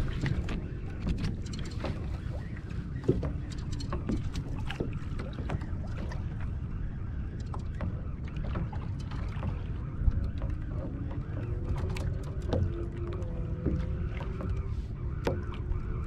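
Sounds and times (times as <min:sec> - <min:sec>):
water slapping kayak hull: 0:00.0 - 0:16.0
wind rumble on microphone: 0:00.0 - 0:16.0.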